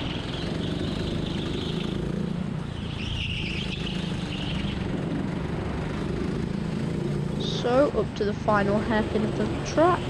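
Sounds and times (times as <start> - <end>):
go-kart engine running: 0.0 - 10.0
high engine whine: 0.0 - 10.0.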